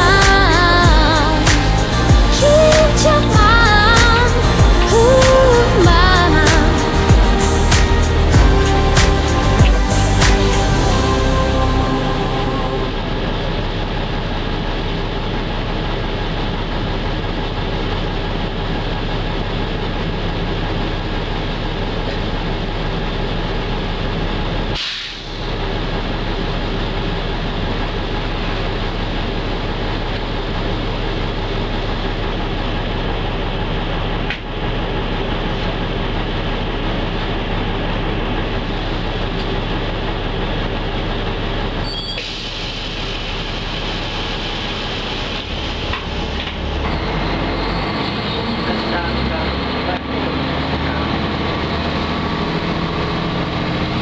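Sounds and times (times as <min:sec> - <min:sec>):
bus road noise: 0:00.0 - 0:54.0
low drivetrain hum: 0:00.0 - 0:54.0.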